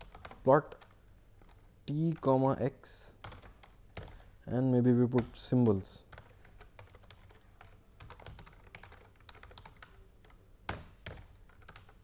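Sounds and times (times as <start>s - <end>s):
typing on computer keyboard: 0.0s - 2.3s, 3.2s - 4.3s, 5.1s - 12.0s.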